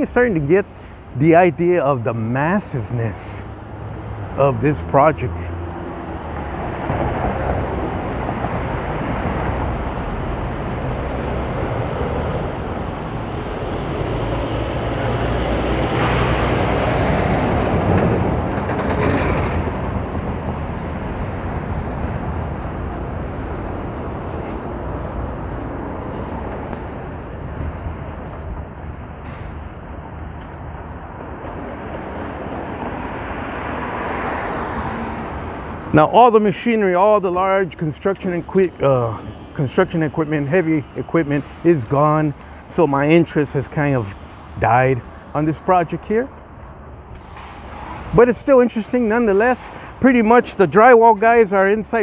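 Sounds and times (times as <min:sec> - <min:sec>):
loud vehicle passing: 0:00.0 - 0:52.0
traffic rumble: 0:00.0 - 0:52.0.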